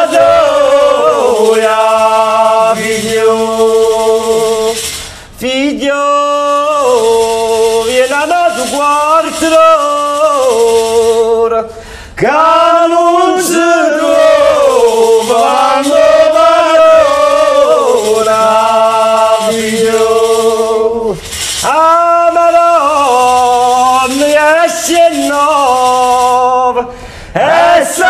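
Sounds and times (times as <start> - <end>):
men singing together: 0.0 - 28.0.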